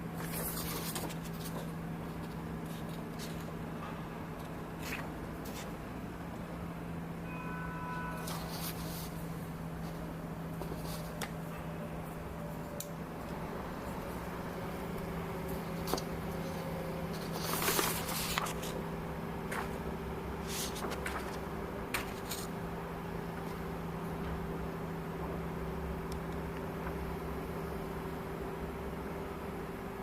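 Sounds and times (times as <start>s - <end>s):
small fan motor humming: 0.0s - 30.0s.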